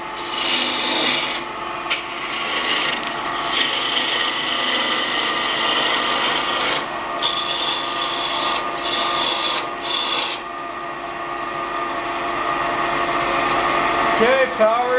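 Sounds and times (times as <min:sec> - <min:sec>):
lathe tool cutting wood: 0:00.0 - 0:10.8, 0:11.6 - 0:14.9.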